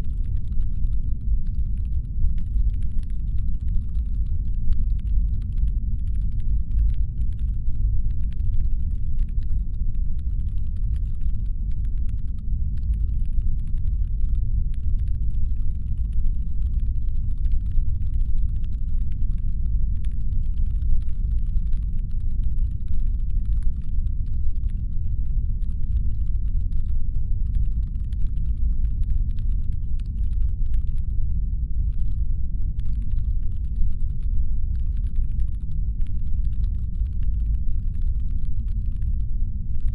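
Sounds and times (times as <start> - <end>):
faint ticking and crackling: 0.0 - 31.1, 31.8 - 39.9
low brown-noise rumble: 0.0 - 39.9.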